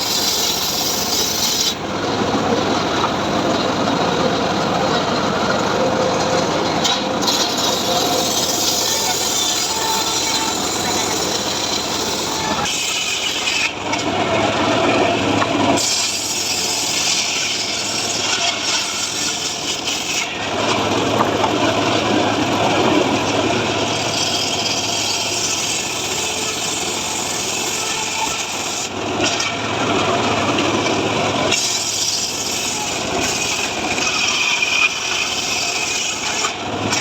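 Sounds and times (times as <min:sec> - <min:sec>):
power saw cutting wood: 0:00.0 - 0:37.0.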